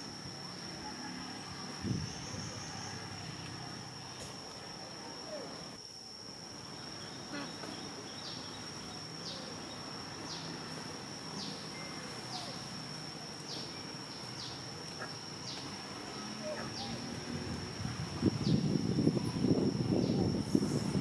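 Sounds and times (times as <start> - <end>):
falling insect chirp: 0.0 - 21.0
insects droning: 0.0 - 21.0.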